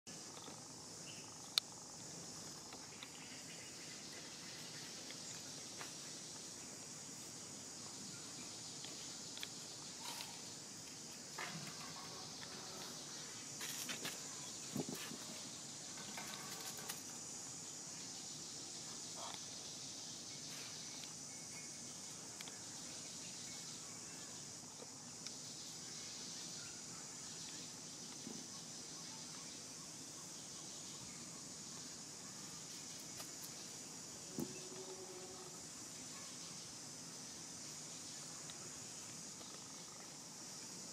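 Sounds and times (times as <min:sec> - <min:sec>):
high-pitched insect chorus: 0:00.1 - 0:40.9.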